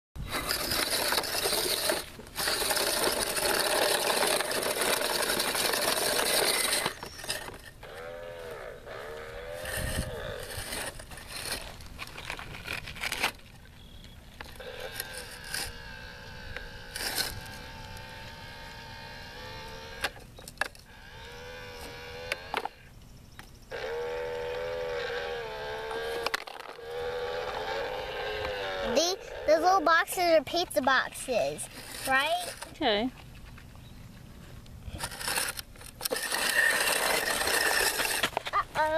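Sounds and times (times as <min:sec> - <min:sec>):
toy motor and gears whining: 0:00.2 - 0:13.4, 0:14.4 - 0:22.9, 0:23.7 - 0:30.2, 0:30.8 - 0:32.7, 0:34.9 - 0:38.9.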